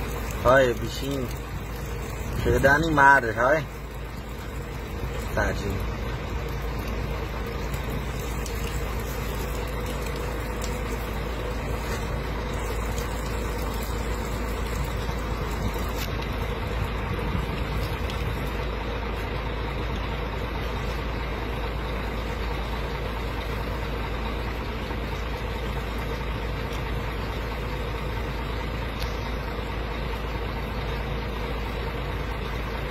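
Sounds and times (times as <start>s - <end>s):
lorry engine idling: 0.0s - 32.9s.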